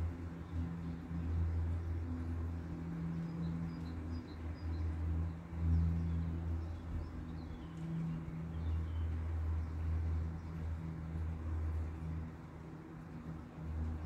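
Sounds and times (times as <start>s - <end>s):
distant propeller plane drone: 0.0s - 14.0s.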